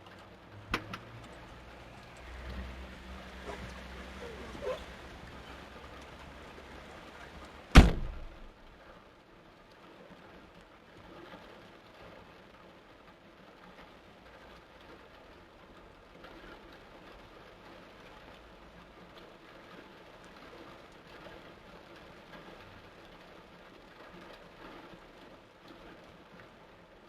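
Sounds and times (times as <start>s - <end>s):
torrential rain: 0.0s - 27.0s.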